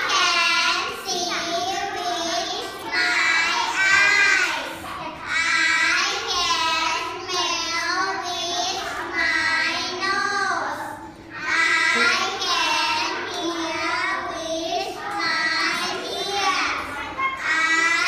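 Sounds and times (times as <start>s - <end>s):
girls singing together: 0.0s - 18.0s.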